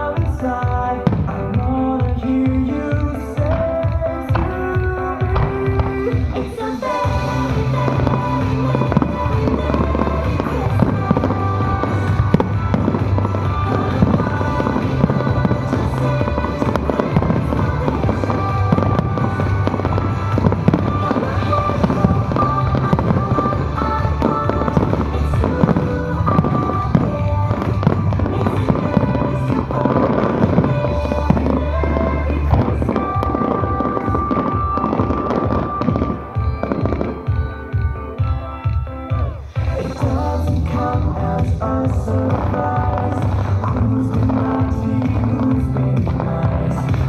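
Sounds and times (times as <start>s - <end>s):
music with strong bass: 0.0s - 47.0s
fireworks bursting: 0.2s - 37.9s, 39.5s - 47.0s.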